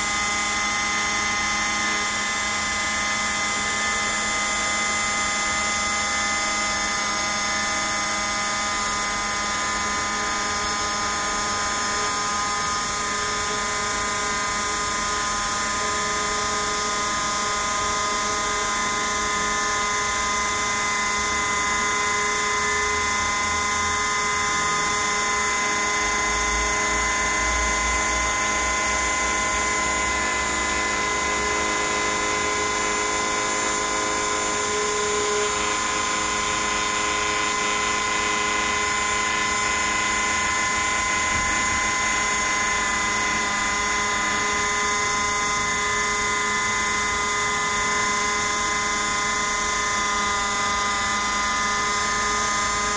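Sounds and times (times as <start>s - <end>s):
router spindle motor whine: 0.0s - 52.9s.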